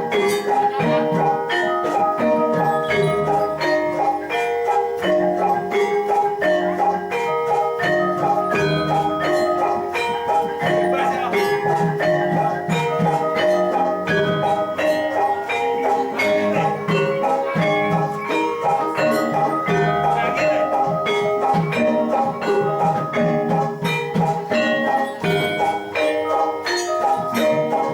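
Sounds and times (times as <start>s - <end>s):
gamelan metallophones playing: 0.0s - 27.9s.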